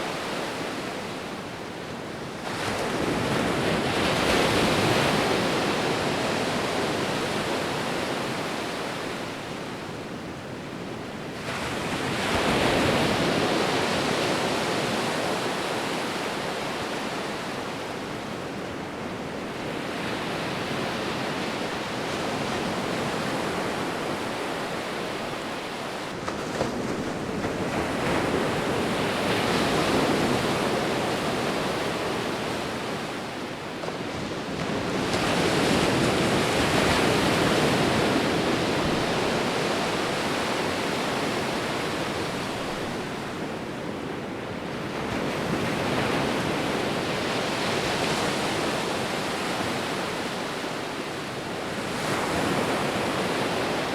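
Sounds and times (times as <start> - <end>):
sea waves breaking on a beach: 0.0 - 53.9.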